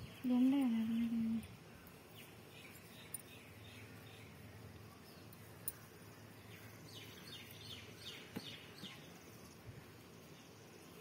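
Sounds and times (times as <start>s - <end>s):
bird chirping: 0.0s - 11.0s
low outdoor noise: 0.0s - 11.0s.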